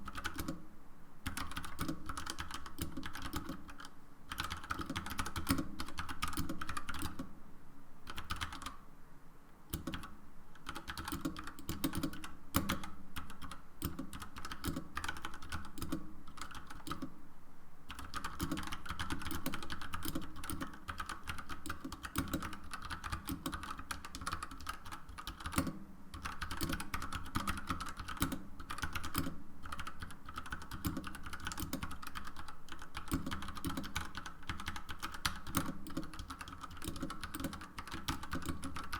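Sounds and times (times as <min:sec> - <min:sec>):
mechanical keyboard typing: 0:00.0 - 0:00.6, 0:01.2 - 0:07.3, 0:08.0 - 0:08.8, 0:09.7 - 0:17.1, 0:17.9 - 0:38.9.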